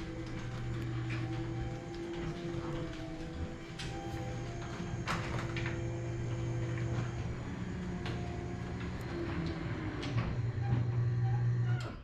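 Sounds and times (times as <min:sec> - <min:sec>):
door clicks and rattles: 0:00.0 - 0:11.1
garage door opener motor humming: 0:00.0 - 0:12.0.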